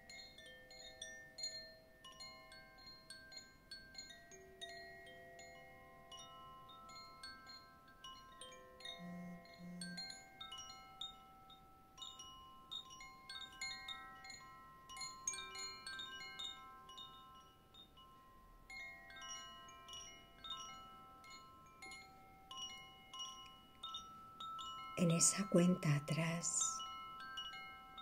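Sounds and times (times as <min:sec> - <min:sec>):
wind chimes ringing: 0:00.0 - 0:28.0.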